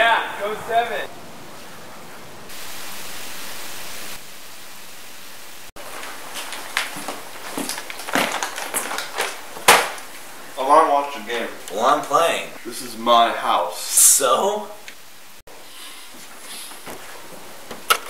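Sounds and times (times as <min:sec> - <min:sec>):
steady hiss: 0:00.0 - 0:08.0, 0:09.0 - 0:18.0.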